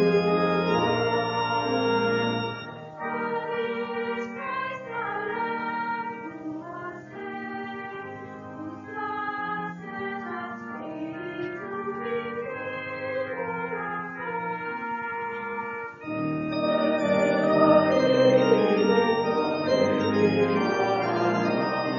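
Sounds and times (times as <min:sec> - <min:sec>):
voices singing a hymn: 0:00.0 - 0:21.9.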